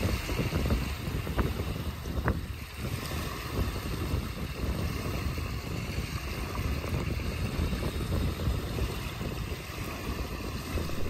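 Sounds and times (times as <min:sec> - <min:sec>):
waves lapping on rocky shore: 0:00.0 - 0:11.0
wind buffeting microphone: 0:00.0 - 0:11.0.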